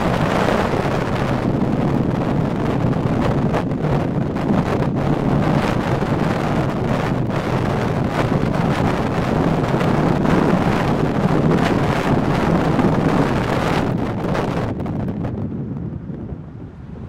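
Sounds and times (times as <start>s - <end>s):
car engine hum: 0.0s - 17.0s
road and wind noise: 0.0s - 17.0s.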